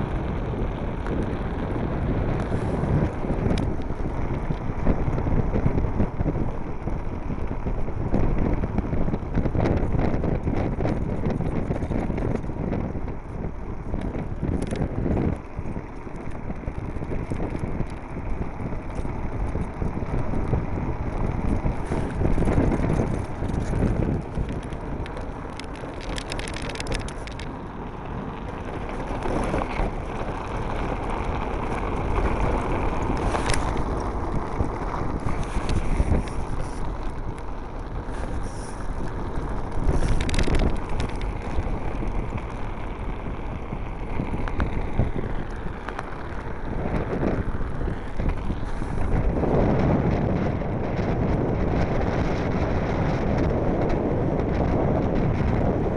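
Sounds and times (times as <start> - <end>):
wheels rumbling on hard ground: 0.0 - 55.9
wind buffeting microphone: 0.0 - 55.9.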